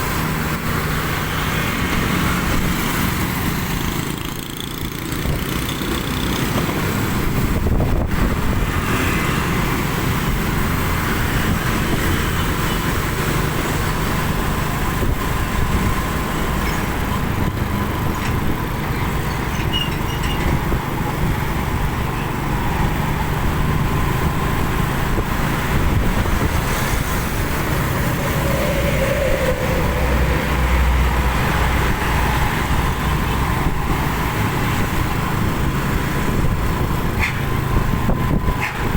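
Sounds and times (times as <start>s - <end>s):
traffic engines and road noise: 0.0s - 38.9s.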